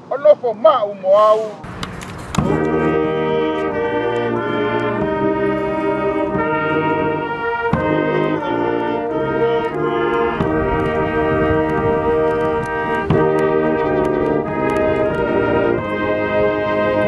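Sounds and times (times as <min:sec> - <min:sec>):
brass band playing slow tune: 0:01.6 - 0:17.0.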